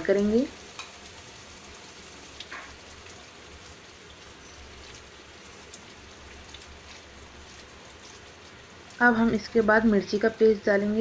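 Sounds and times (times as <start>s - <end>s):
paste sizzling in hot fat: 0.0s - 11.0s.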